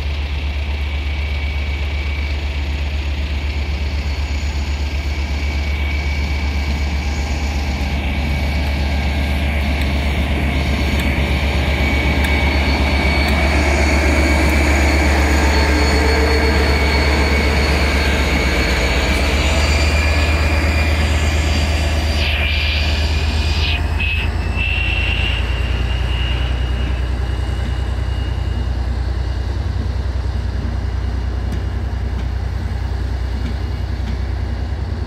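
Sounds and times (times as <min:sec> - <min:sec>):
diesel locomotive engine rumble: 0:00.0 - 0:35.0
wheel and rail noise: 0:00.0 - 0:35.0.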